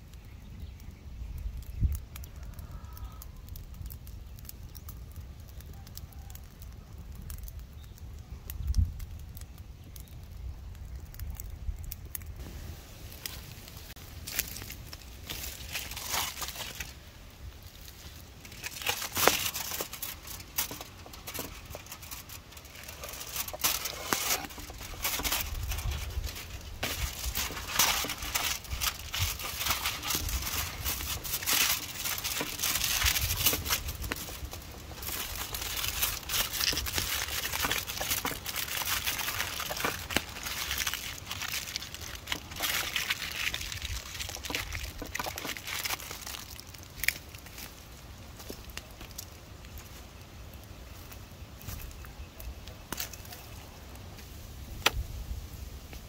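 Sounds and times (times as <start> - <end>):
aluminium foil crinkling: 0.0 - 54.2.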